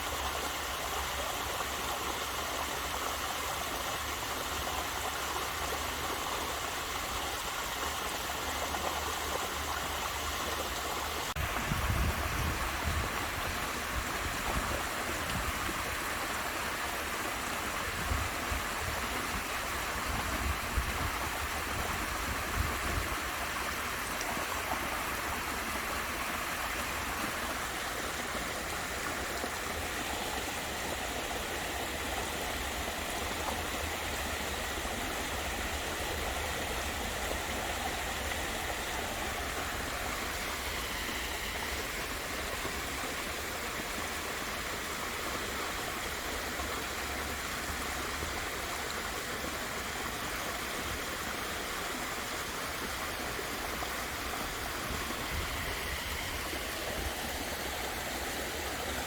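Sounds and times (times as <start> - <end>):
waterfall pouring and splashing: 0.0 - 59.0.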